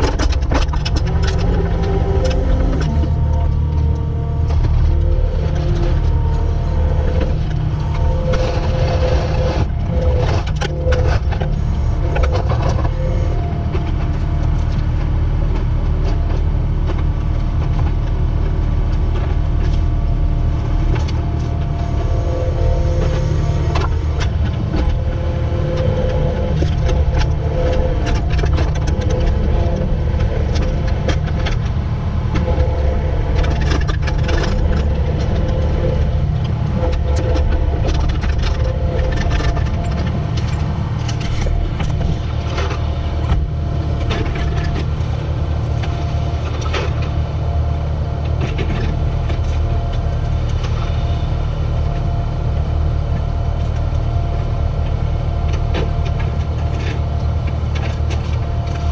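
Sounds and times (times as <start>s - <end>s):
machine clanks and rattles: 0.0s - 52.2s
loader diesel engine running: 0.0s - 58.9s.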